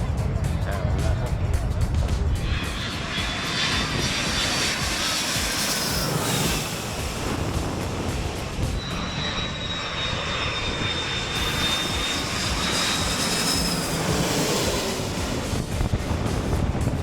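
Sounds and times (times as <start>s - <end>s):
aircraft engines running: 0.0s - 17.0s
thin high whine: 2.1s - 16.6s.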